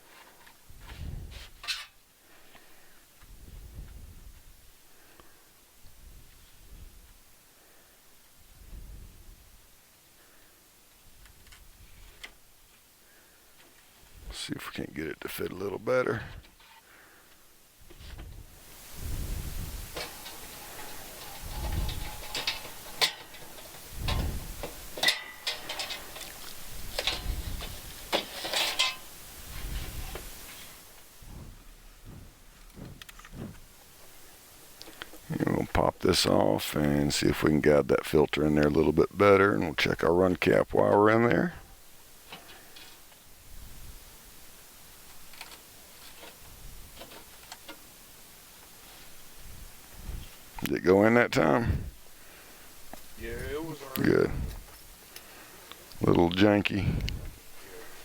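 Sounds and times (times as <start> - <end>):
air filter scraping and rustling: 0.0 - 4.4, 11.3 - 12.9, 13.6 - 58.0.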